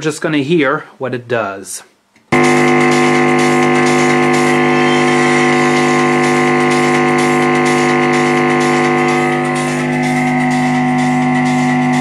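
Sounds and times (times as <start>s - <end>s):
speaker hum and buzz: 2.1s - 12.0s
high-pitched whine: 2.4s - 12.0s.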